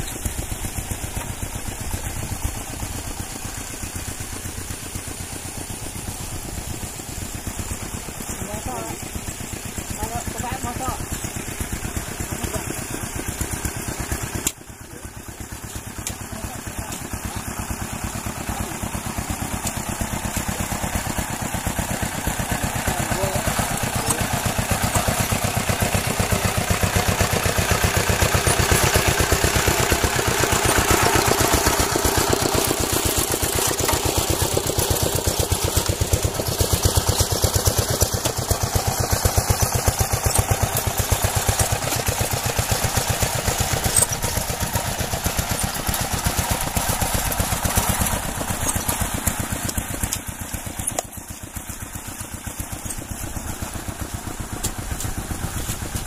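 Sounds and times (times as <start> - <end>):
engine running with fast pulsing: 0.0 - 56.0.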